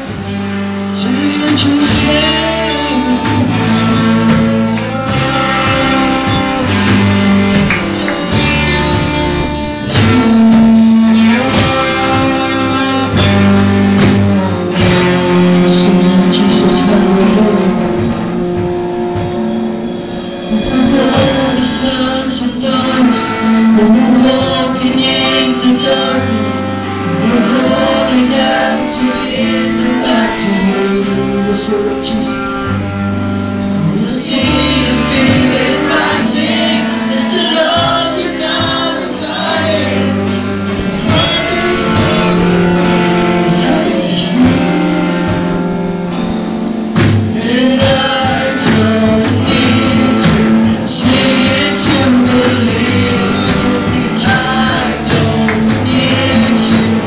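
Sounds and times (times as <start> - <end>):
man singing lead vocals: 0.0 - 33.1, 33.8 - 57.0
backing singers: 0.0 - 57.0
drums with cymbals: 0.0 - 57.0
electric guitar: 0.0 - 57.0
low bass notes: 0.0 - 57.0.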